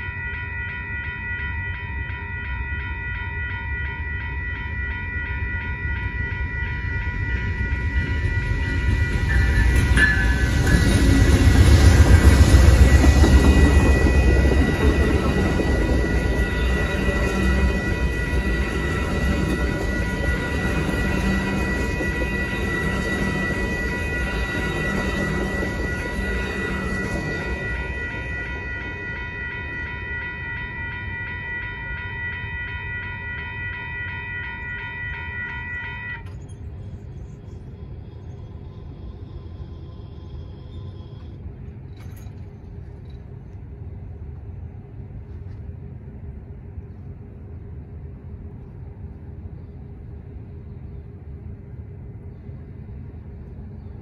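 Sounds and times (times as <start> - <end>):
passing train rumble: 0.0 - 54.0
railroad crossing bell ringing: 0.0 - 54.0.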